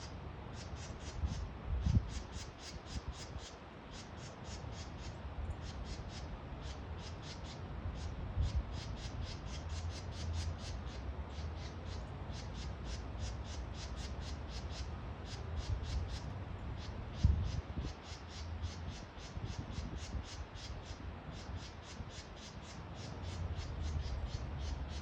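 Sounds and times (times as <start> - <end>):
birds squawking: 0.0 - 25.0.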